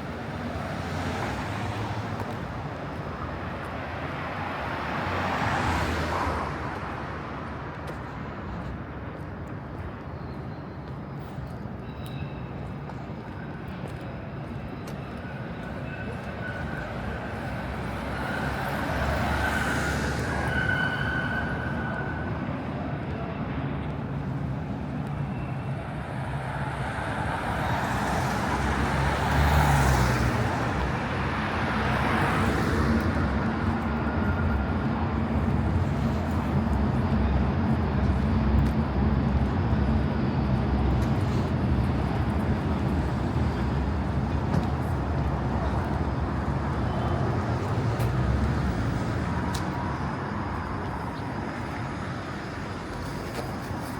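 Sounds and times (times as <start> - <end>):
low rumble of traffic: 0.0 - 53.9.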